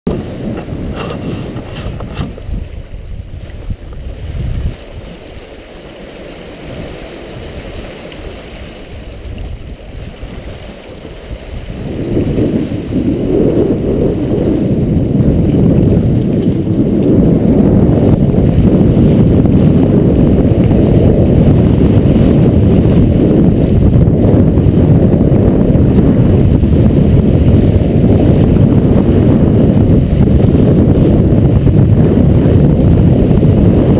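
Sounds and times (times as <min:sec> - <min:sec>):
wind buffeting microphone: 0:00.1 - 0:05.5, 0:06.6 - 0:33.9
water rushing along hull: 0:00.1 - 0:33.9.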